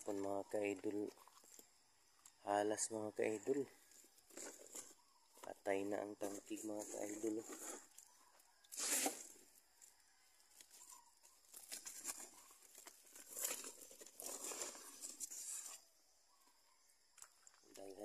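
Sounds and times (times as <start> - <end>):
faint rustling and crinkling: 0.0 - 2.4, 3.4 - 17.8.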